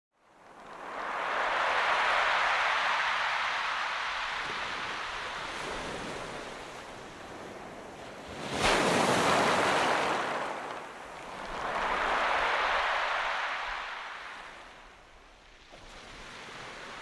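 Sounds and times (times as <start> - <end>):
sea waves breaking on beach: 0.3 - 17.0.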